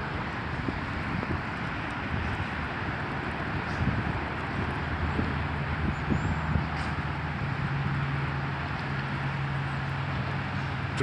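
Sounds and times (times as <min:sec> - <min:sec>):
helicopter running: 0:00.0 - 0:11.0.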